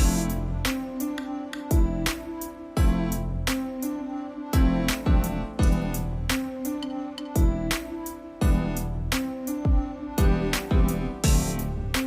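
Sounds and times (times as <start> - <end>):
gentle music with steady beat: 0.0 - 12.0.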